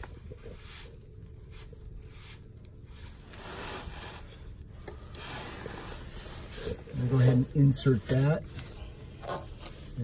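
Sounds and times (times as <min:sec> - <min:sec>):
gloved hands rubbing: 0:00.0 - 0:10.0.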